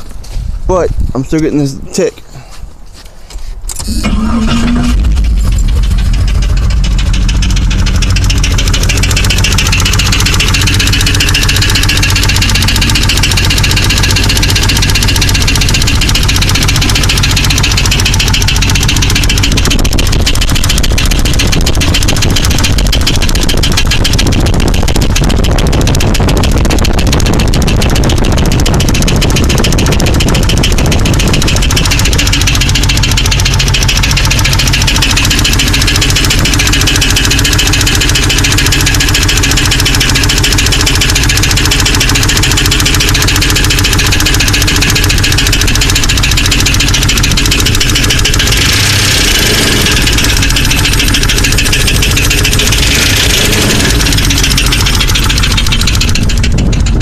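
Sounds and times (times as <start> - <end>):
car engine running: 0.0 - 57.0
rapid engine ticking: 0.0 - 57.0.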